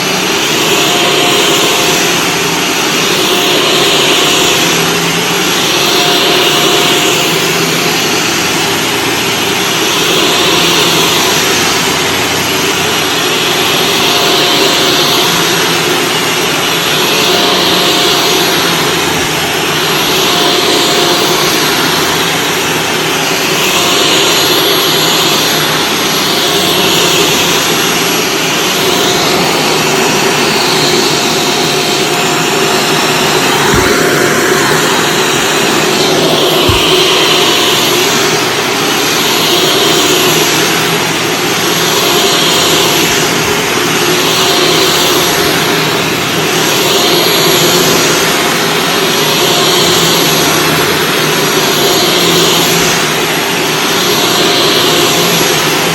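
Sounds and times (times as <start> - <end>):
vacuum cleaner on carpet: 0.0 - 55.9.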